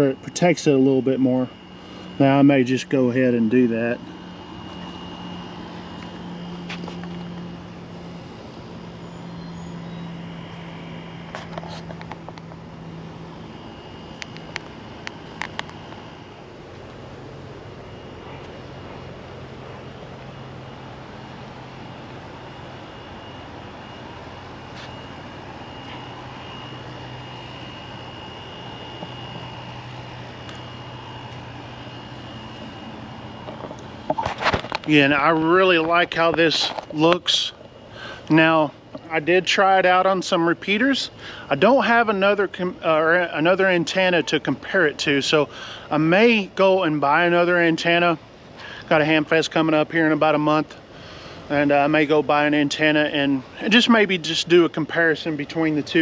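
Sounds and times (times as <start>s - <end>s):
distant motor drone: 0.0s - 56.0s.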